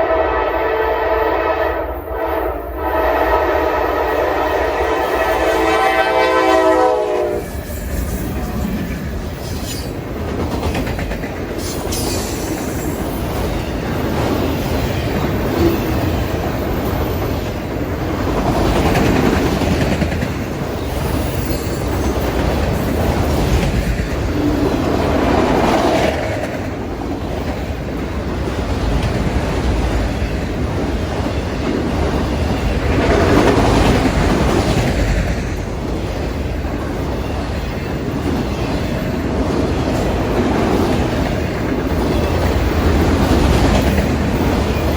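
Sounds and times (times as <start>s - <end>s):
freight train wheels rolling: 2.7s - 44.9s.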